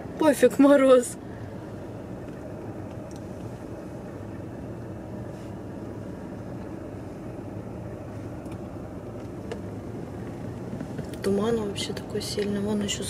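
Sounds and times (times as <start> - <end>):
car interior engine and tyre rumble: 0.0 - 13.0.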